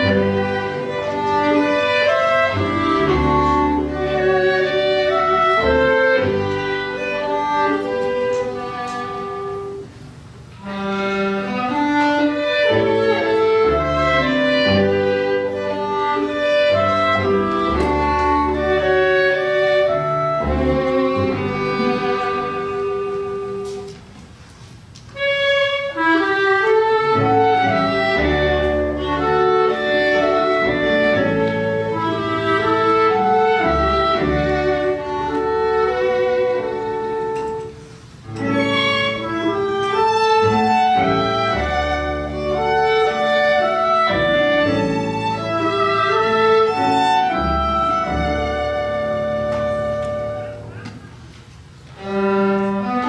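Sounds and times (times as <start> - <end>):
double bass: 0.0 - 23.9, 25.2 - 51.2, 51.9 - 53.0
violin melody: 0.0 - 24.3, 25.0 - 53.0
keyboard piano: 0.0 - 24.4, 25.1 - 53.0
clarinet: 0.0 - 53.0.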